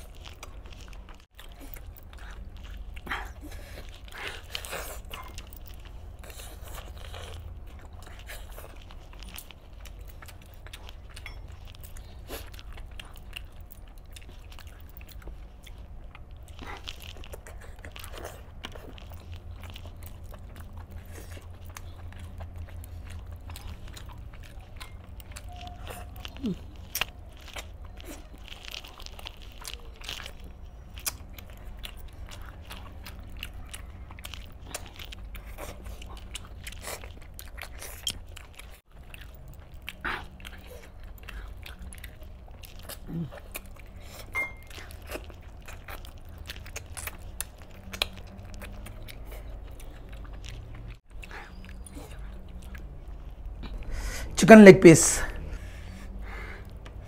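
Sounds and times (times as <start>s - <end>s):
bones crunching and snapping: 0.0s - 55.5s
chewing and biting chicken: 0.0s - 57.0s
low steady hum: 0.0s - 57.0s.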